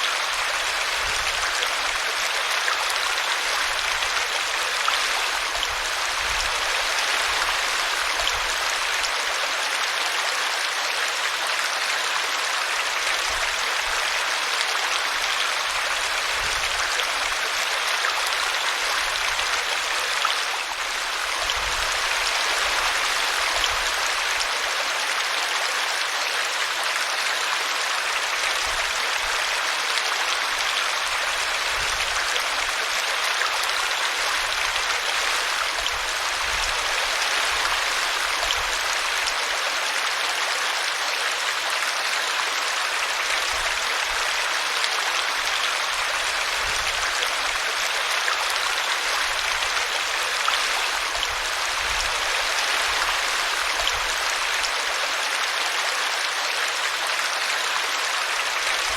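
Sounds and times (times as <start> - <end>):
brook babbling: 0.0 - 58.9.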